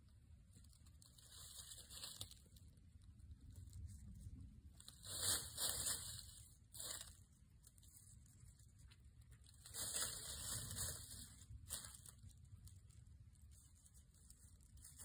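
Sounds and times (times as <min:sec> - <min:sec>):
dry leaves rustling: 0:00.6 - 0:02.7, 0:03.6 - 0:15.0.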